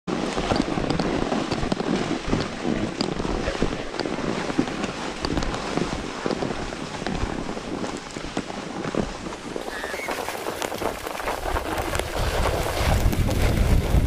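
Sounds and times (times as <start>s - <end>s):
snow crunching under skis: 0.1s - 14.0s
wind buffeting microphone: 0.2s - 14.0s.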